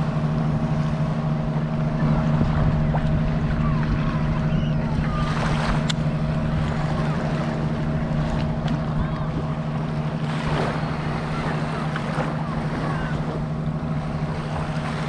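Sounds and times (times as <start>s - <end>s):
boat engine hum: 0.0s - 15.0s
small waves lapping: 0.0s - 15.0s
wind on microphone: 0.0s - 15.0s.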